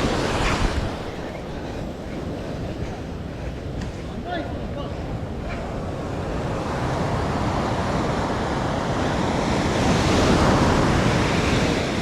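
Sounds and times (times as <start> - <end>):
ocean surf on shore: 0.0 - 12.0.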